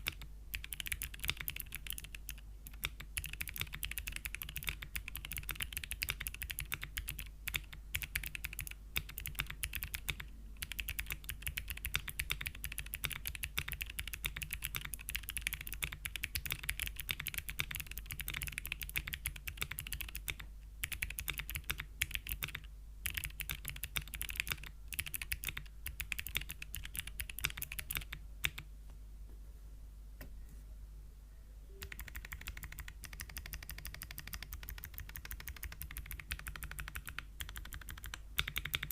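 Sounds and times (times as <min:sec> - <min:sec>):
fast mechanical keyboard typing: 0:00.0 - 0:28.6, 0:31.8 - 0:38.9.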